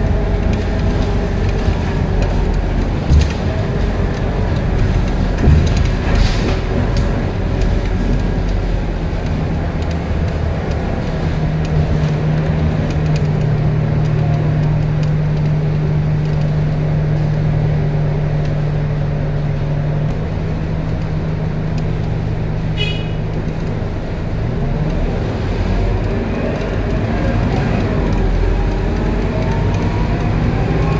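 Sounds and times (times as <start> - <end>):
bus engine drone: 0.0 - 30.9.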